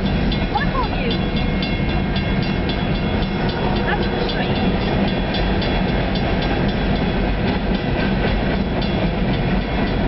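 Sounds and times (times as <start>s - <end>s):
train wheels rumbling on rail: 0.0s - 10.0s
wheels clicking over rail joints: 0.0s - 10.0s.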